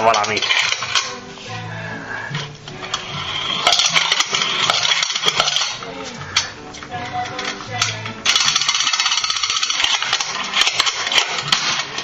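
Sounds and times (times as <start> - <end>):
clinking rattle and clicks: 0.0 - 1.2, 2.4 - 12.0
spinning top humming: 0.0 - 12.0.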